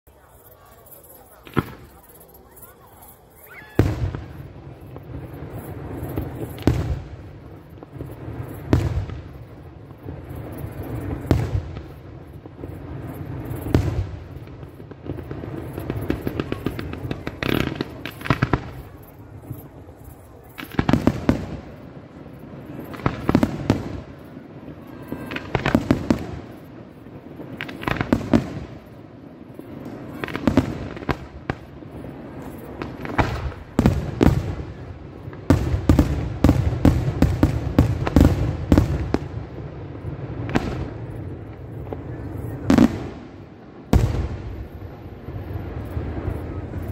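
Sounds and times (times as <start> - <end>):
fireworks booming and crackling: 0.0 - 46.9.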